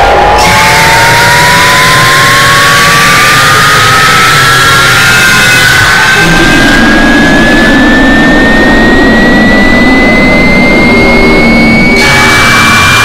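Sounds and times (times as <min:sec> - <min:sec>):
loud distorted noise: 0:00.0 - 0:13.0
rising whistle-like tone: 0:00.0 - 0:13.0.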